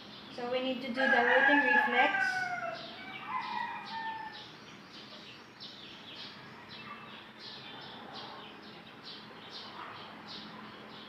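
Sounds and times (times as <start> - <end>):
small bird chirping: 0.0 - 0.9, 2.6 - 11.0.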